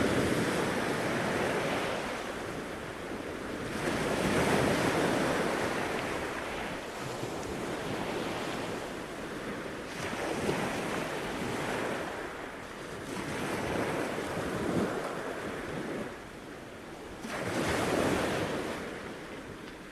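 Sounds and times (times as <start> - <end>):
surf breaking on a beach: 0.0 - 19.9.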